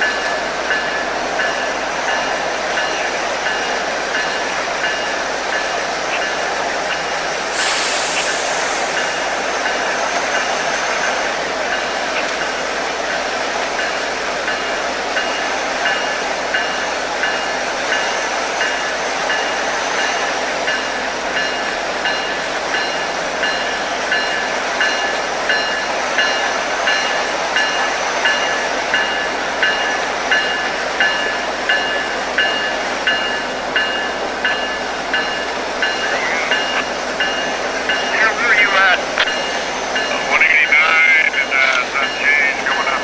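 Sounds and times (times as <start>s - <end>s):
train wheels rushing on rail: 0.0s - 43.0s.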